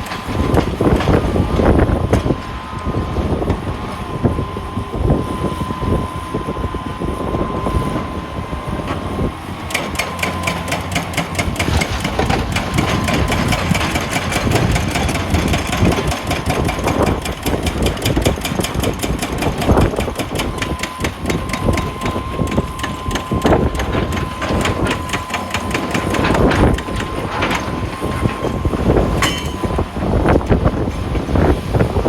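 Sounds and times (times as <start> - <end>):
diesel earthmoving machinery clatter: 0.0 - 32.0
steady machine whine: 0.0 - 32.0.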